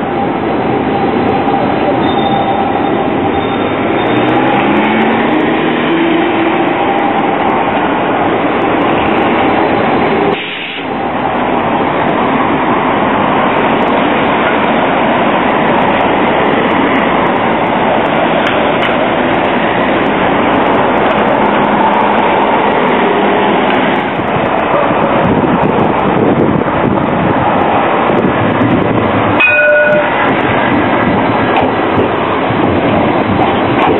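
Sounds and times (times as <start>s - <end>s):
street traffic: 0.0s - 33.9s
tram rolling on street track: 0.0s - 33.9s.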